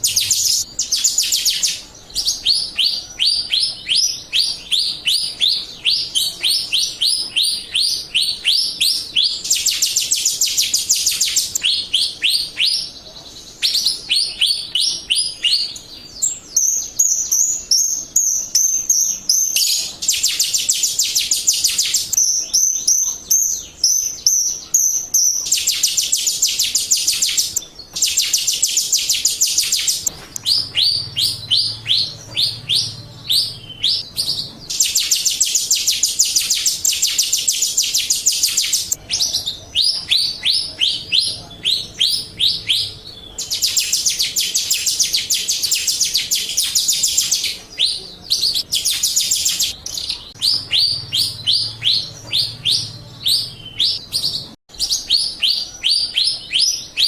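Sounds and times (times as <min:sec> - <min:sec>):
starling chattering chirps: 0:00.0 - 0:57.0.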